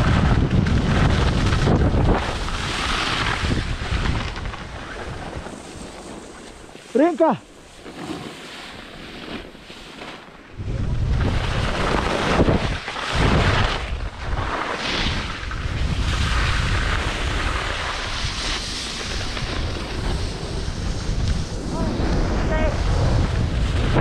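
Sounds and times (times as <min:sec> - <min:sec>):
wind buffeting microphone: 0:00.0 - 0:06.7, 0:10.5 - 0:24.0
skis sliding on snow: 0:00.0 - 0:24.0.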